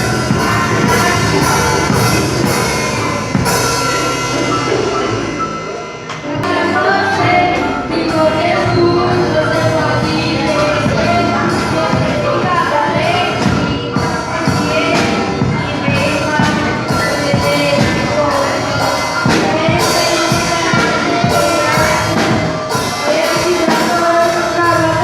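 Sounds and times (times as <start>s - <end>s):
children's band playing: 0.0s - 25.0s
steady drum beat: 0.0s - 25.0s.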